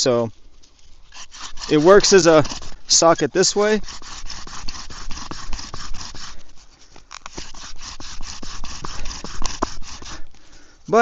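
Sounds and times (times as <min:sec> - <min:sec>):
spindle grinding on fireboard: 0:01.1 - 0:10.3
bow drill sawing back and forth: 0:01.1 - 0:10.4.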